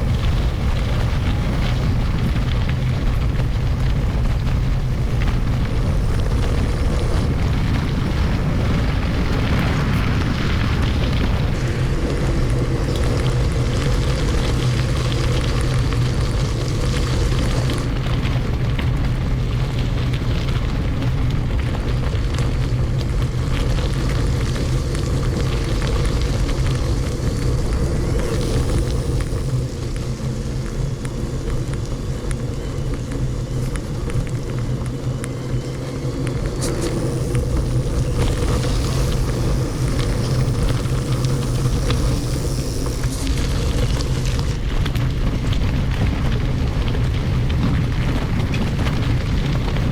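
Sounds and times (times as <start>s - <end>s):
bike tyres on gravel: 0.0s - 49.9s
wind on microphone: 0.0s - 49.9s.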